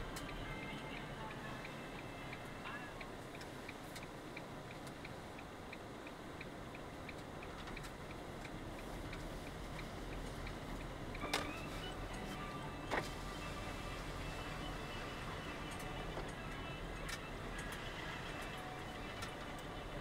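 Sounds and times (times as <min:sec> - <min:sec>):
engine and road hum: 0:00.0 - 0:20.0
turn signal indicator ticking: 0:00.0 - 0:20.0.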